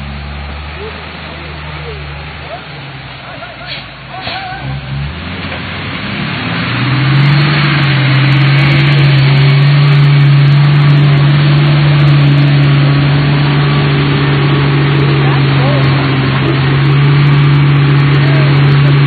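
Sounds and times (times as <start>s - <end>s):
bus diesel engine under load: 0.0s - 19.0s.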